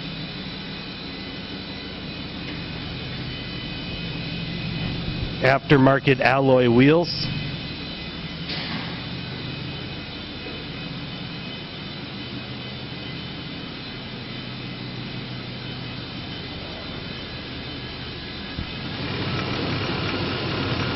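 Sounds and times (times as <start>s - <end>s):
truck engine idling: 0.0s - 20.9s.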